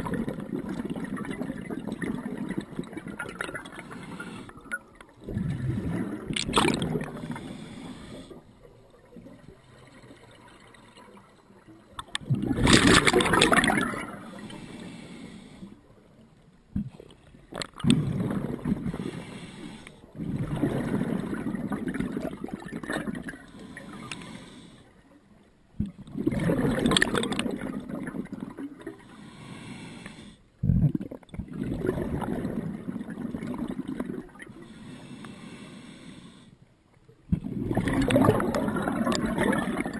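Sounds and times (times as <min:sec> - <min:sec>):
scuba regulator bubbles underwater: 0:00.0 - 0:36.4, 0:37.2 - 0:39.9.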